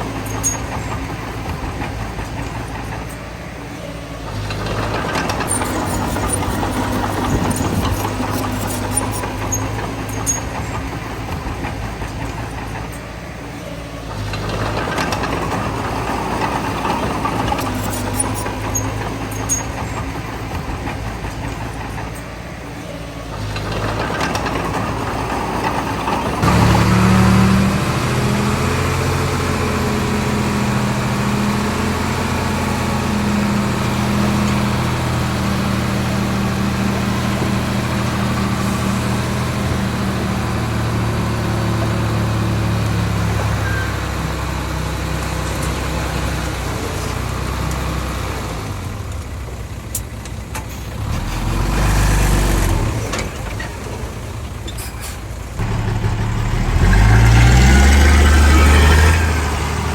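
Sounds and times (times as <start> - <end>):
heavy machinery diesel engine droning: 0.0 - 59.9.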